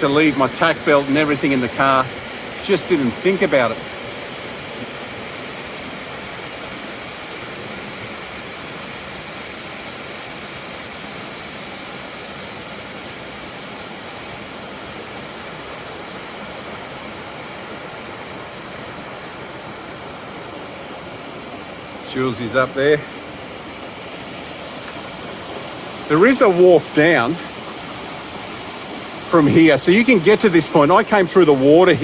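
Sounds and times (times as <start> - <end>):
creek water rushing over rocks: 0.0 - 32.0.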